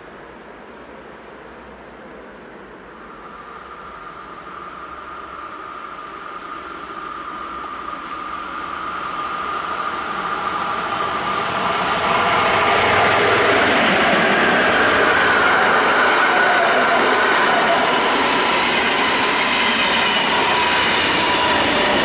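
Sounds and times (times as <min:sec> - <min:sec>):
train approaching: 0:00.0 - 0:22.0.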